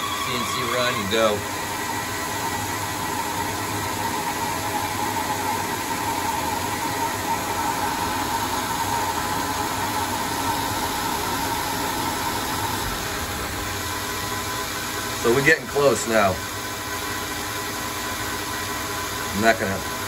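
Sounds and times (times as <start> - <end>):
lathe machine hum and hiss: 0.0 - 20.0.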